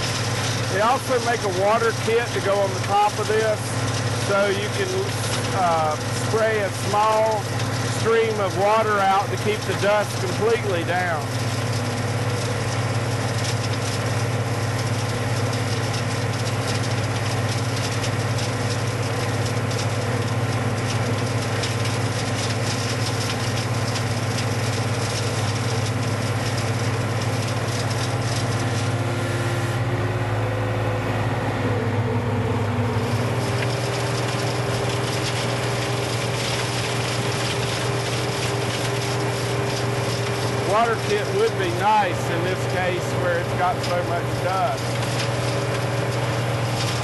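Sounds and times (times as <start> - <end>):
skid steer engine running: 0.0 - 47.0.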